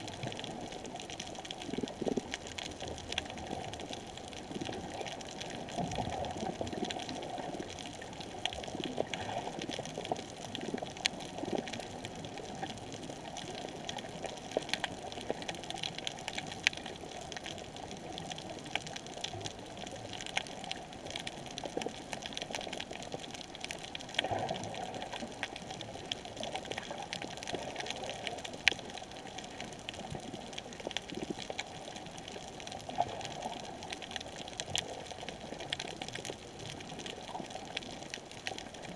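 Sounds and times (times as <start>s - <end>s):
muffled underwater hiss: 0.0s - 38.9s
sharp clicks and crackles: 0.0s - 38.9s.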